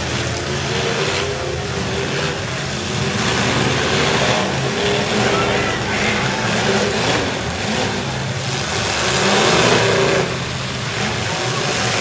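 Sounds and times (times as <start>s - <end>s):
truck engines revving loud: 0.0s - 12.0s.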